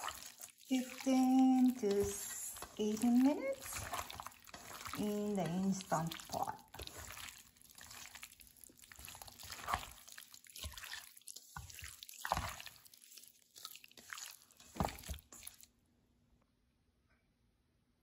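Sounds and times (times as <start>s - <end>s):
wet squelching of hand mixing food: 0.0s - 15.9s.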